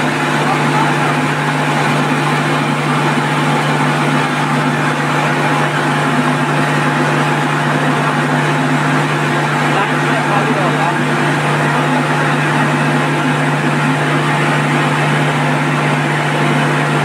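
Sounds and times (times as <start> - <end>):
electric pump motor humming: 0.0 - 17.0.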